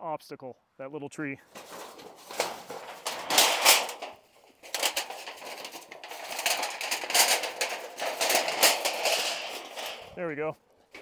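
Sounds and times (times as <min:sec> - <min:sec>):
metal sheet rattling and scraping: 0:01.5 - 0:11.0.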